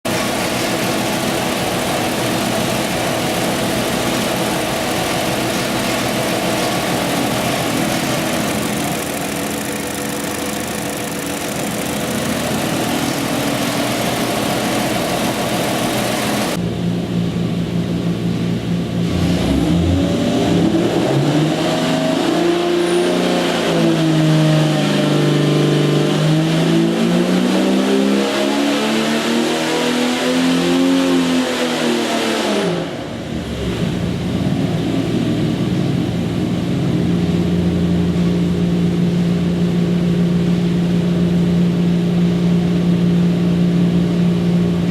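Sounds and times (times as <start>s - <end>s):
car engine running on a dyno: 0.0s - 44.9s.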